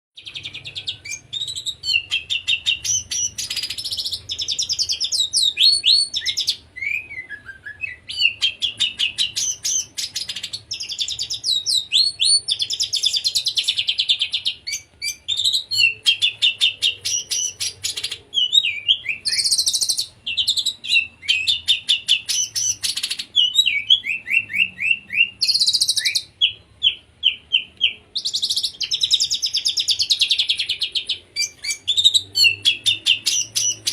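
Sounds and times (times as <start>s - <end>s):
magpie-robin singing trills: 0.2s - 33.9s.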